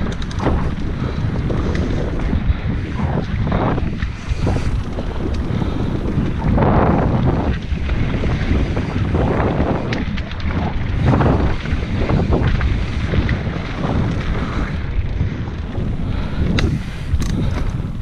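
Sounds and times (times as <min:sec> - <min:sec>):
bike clicks and rattles: 0:00.0 - 0:18.0
bike tyres rumbling on dirt: 0:00.0 - 0:18.0
wind buffeting microphone: 0:00.0 - 0:18.0.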